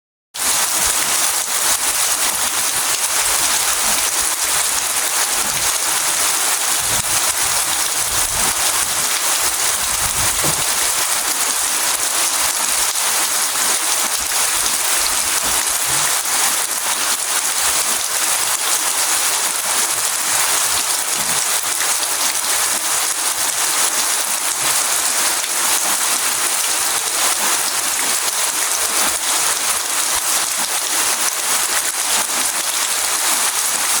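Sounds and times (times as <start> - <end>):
rain pattering: 0.4 - 34.0.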